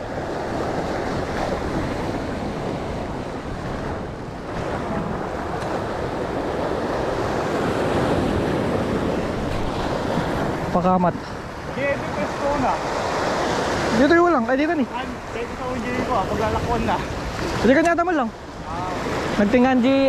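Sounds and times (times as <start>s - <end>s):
sea waves washing over rocks: 0.0s - 20.0s
wind buffeting microphone: 0.0s - 20.0s.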